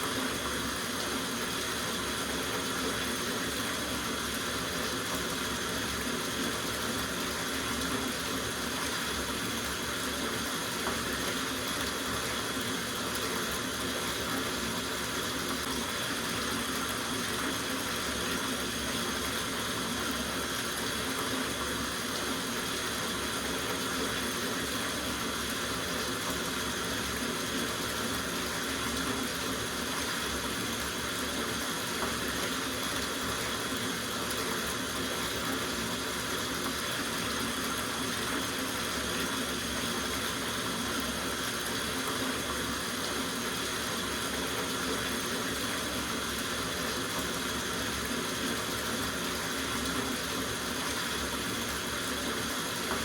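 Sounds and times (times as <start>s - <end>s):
tap running into bathtub: 0.1s - 53.0s.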